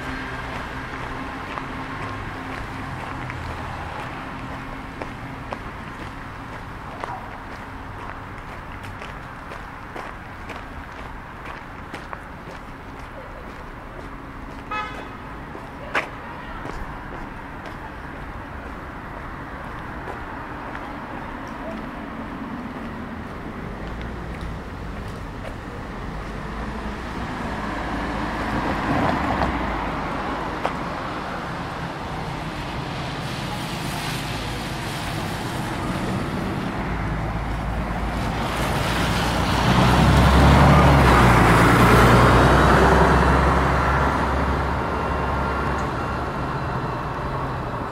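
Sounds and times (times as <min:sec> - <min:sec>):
heavy vehicle engine drone: 0:00.0 - 0:47.9
vehicles passing: 0:00.0 - 0:47.9.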